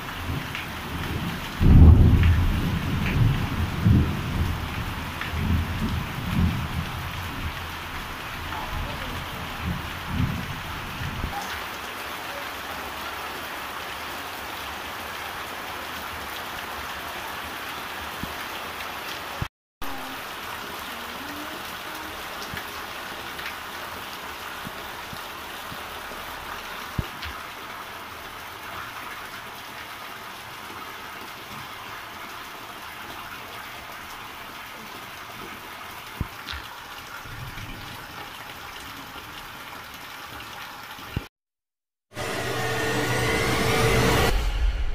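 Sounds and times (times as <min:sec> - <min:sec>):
heavy rain falling: 0:00.0 - 0:41.3, 0:42.1 - 0:44.9.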